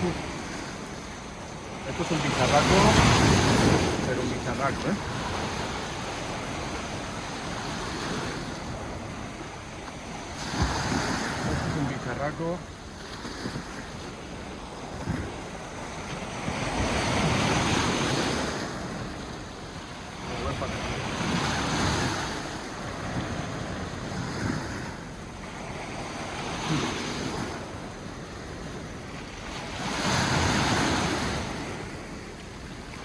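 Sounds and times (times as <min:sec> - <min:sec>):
sea waves breaking on shore: 0:00.0 - 0:33.0.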